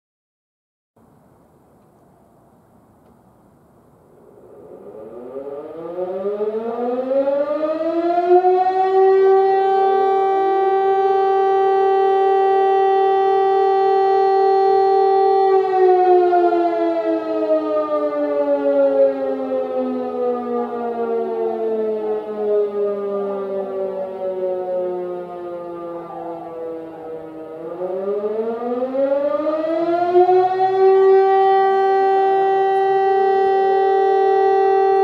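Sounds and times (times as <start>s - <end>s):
alarm siren wailing: 4.1s - 35.0s.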